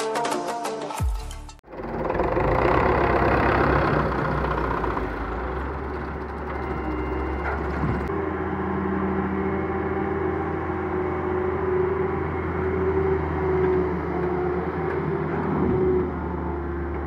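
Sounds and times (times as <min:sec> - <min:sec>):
heavy diesel engine running: 0:01.6 - 0:17.0.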